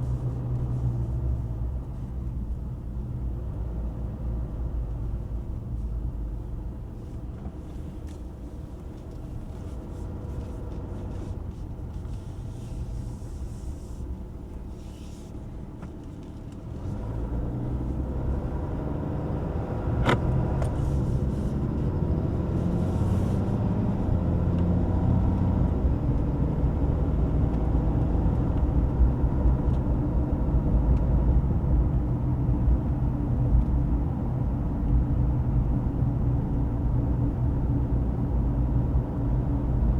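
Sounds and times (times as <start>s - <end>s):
diesel engine rumble: 0.0s - 39.9s.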